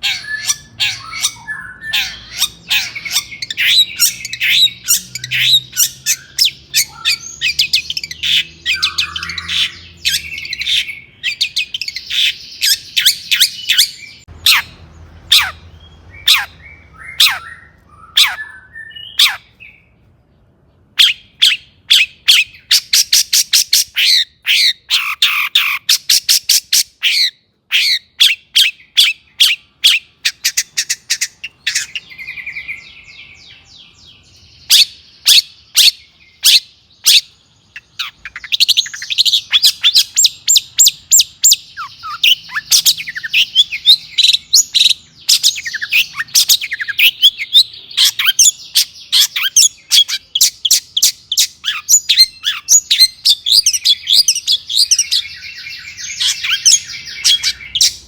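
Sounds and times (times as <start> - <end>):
shrike singing harsh trills: 0.0 - 20.0, 20.8 - 58.0.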